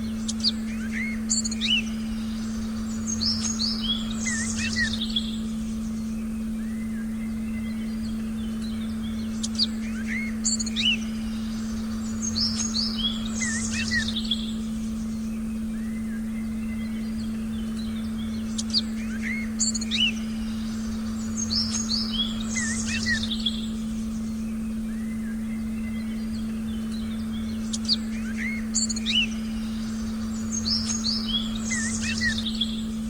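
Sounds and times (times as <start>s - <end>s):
birds chirping and whistling: 0.0s - 33.0s
low hum tone: 0.0s - 33.0s.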